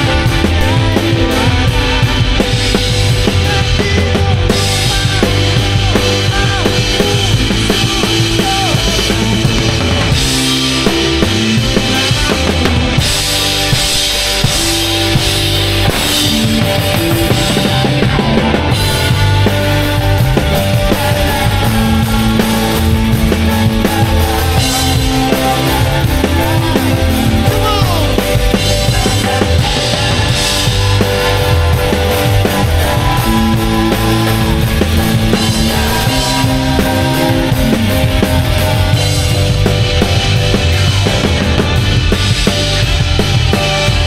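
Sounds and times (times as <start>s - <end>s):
drum kit beat: 0.0s - 44.0s
rock band playing: 0.0s - 44.0s.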